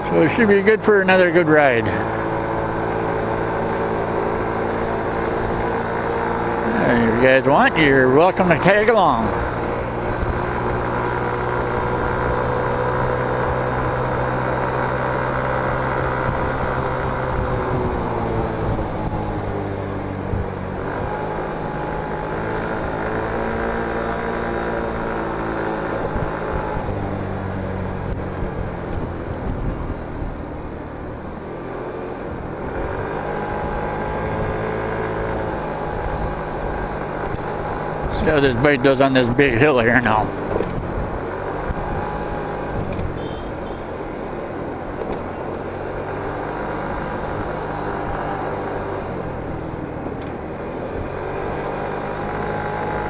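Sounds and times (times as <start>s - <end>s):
scooter engine running: 0.0s - 53.0s
wind and road noise: 0.0s - 53.0s.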